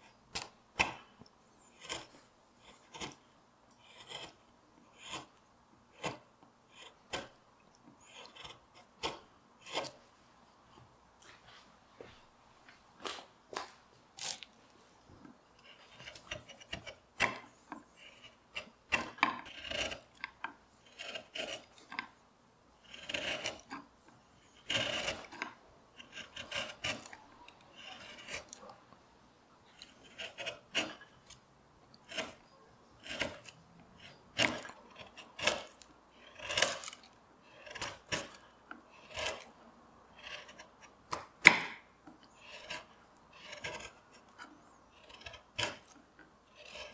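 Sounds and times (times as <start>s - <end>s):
carving gouge scraping wood: 0.0s - 10.1s, 15.1s - 28.7s, 29.6s - 46.9s.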